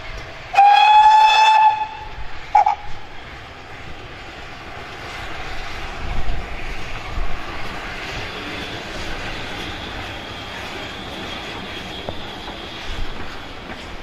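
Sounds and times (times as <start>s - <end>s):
steam locomotive exhaust roar: 0.0s - 14.0s.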